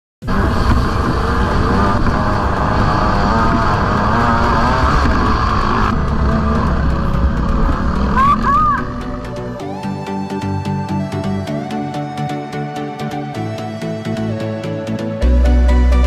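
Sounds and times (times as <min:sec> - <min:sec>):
dirt bike engine revving: 0:00.2 - 0:14.2.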